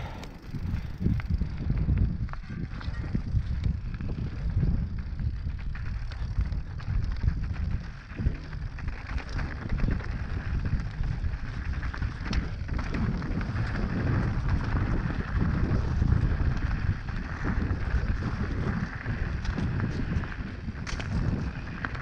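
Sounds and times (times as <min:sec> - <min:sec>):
bike tyres knocking and rattling: 0:00.0 - 0:22.0
wind buffeting microphone: 0:00.0 - 0:22.0.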